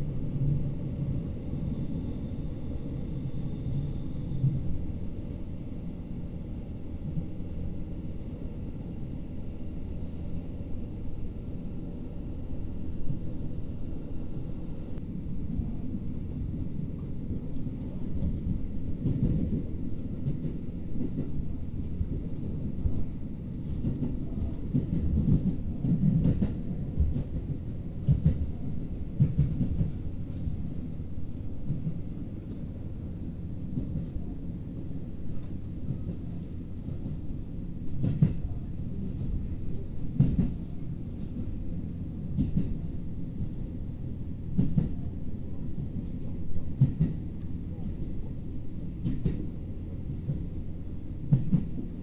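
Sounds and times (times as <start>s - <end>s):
train rumble from inside: 0.0s - 52.0s.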